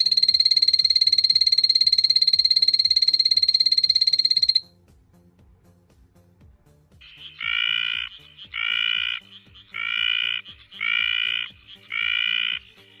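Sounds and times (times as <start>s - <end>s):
background music with a beat: 0.0s - 13.0s.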